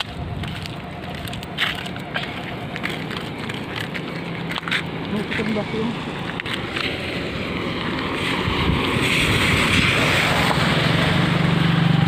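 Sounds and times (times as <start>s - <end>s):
wind buffeting microphone: 0.0s - 11.8s
motorcycle engine humming: 0.0s - 12.0s
road noise: 0.0s - 12.0s.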